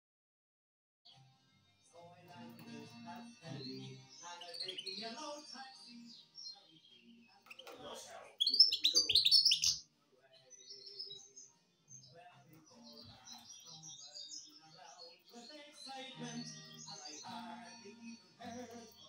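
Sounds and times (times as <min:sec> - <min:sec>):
songbird chirping and singing: 0:01.1 - 0:01.3, 0:01.9 - 0:19.0.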